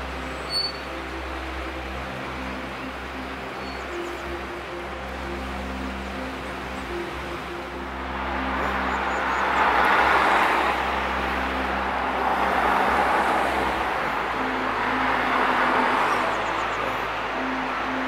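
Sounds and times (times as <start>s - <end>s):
background music: 0.0s - 18.0s
vehicles passing: 0.0s - 18.0s.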